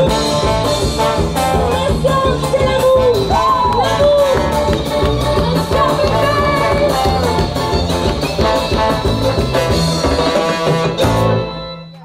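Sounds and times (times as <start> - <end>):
live band playing upbeat tune: 0.0 - 12.0.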